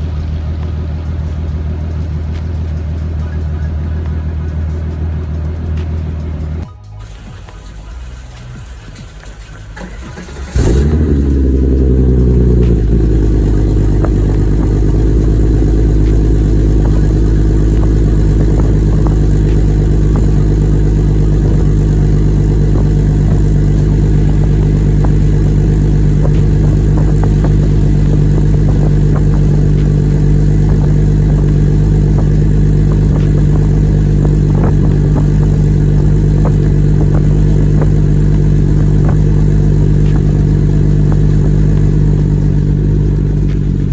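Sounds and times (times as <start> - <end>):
car engine starting and idling: 0.0 - 43.9.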